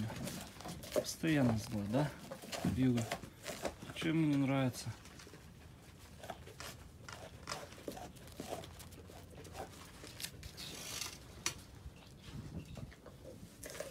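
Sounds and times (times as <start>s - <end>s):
wolf chewing raw meat: 0.0s - 13.9s.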